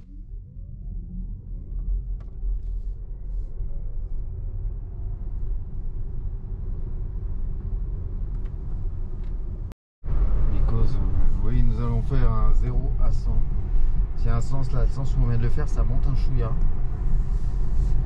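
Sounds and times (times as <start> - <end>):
road and tyre rumble: 0.3 - 18.0.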